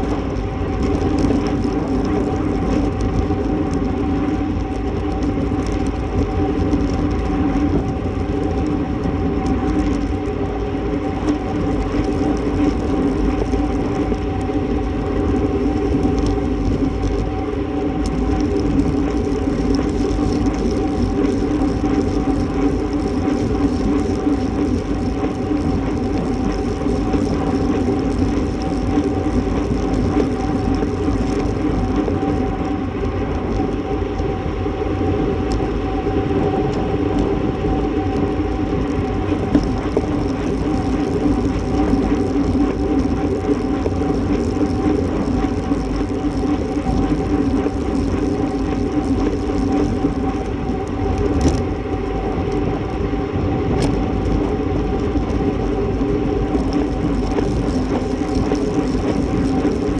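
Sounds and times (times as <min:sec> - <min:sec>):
bicycle tyre and road noise: 0:00.0 - 0:59.9
steady hum: 0:00.0 - 0:59.9
wind on microphone: 0:00.0 - 0:59.9.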